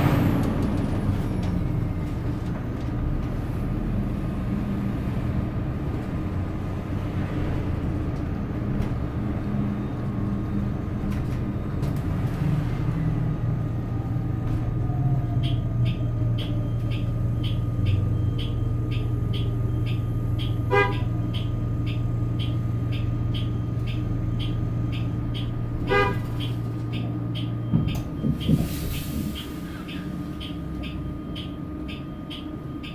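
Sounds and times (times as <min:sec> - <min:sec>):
bus drivetrain hum with whine: 0:00.0 - 0:32.9.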